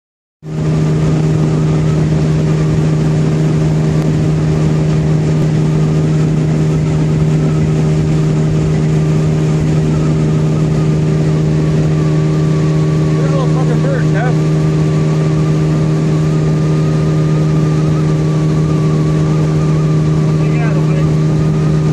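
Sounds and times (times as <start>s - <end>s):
boat motor drone: 0.4s - 21.9s
rushing water noise: 0.4s - 21.9s.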